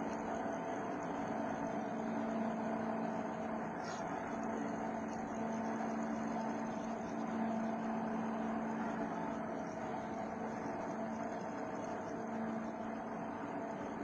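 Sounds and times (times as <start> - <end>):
motor humming with whine: 0.0 - 14.0.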